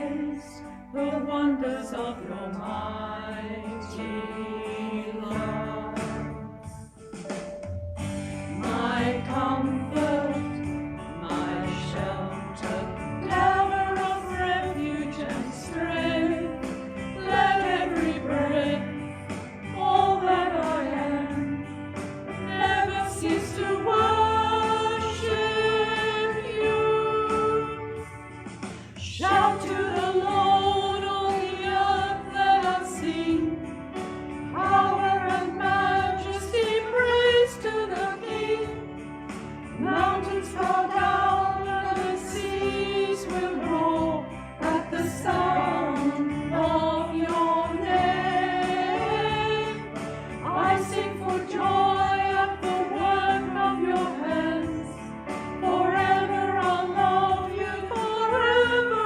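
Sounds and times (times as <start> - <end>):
mixed choir singing a hymn: 0.0 - 6.5, 8.6 - 28.0, 29.0 - 39.0, 39.7 - 59.0.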